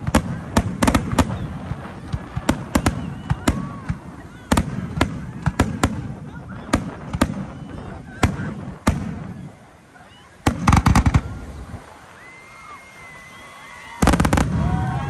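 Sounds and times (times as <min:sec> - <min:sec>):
fireworks bangs: 0:00.0 - 0:15.0
fireworks crackling volley: 0:00.0 - 0:15.0.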